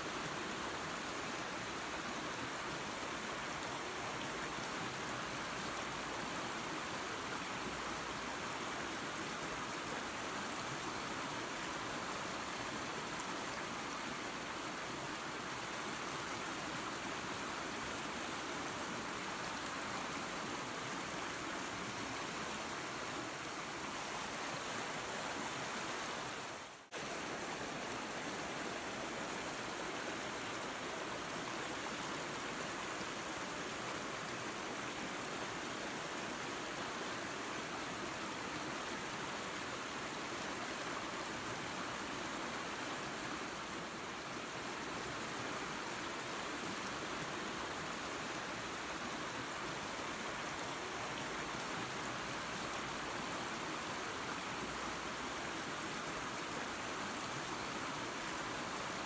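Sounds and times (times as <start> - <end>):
waterfall and creek rushing: 0.0 - 59.0.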